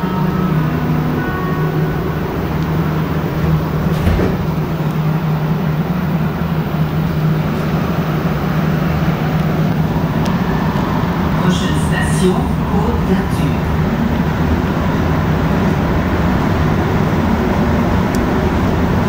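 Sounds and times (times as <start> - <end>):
train hum and rumble: 0.0 - 19.0.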